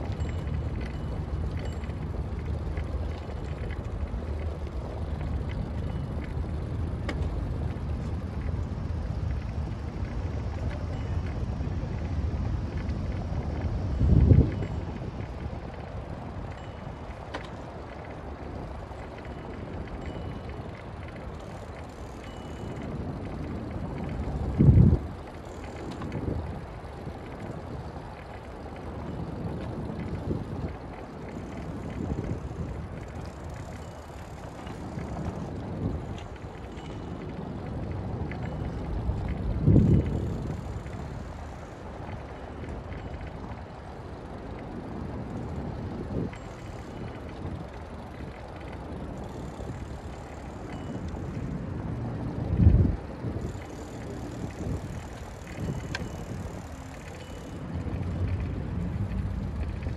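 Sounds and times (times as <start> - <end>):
tyres and wind rumble: 0.0 - 59.9.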